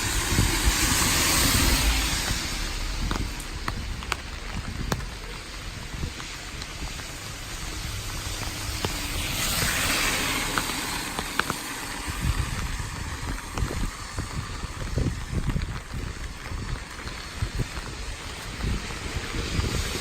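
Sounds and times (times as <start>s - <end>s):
car tyres hissing on wet road: 0.0s - 20.0s
steady rain: 0.0s - 20.0s
wind buffeting microphone: 0.0s - 20.0s.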